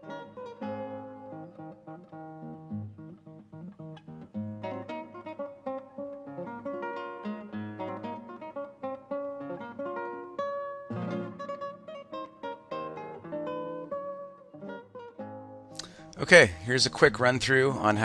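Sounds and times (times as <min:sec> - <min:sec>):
acoustic guitar picking melody: 0:00.0 - 0:18.0.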